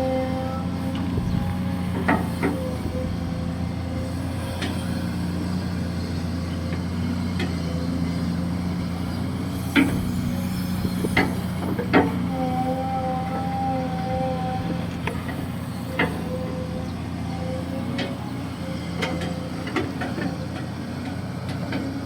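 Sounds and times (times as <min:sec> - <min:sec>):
hydraulic excavator digging: 0:00.0 - 0:22.0.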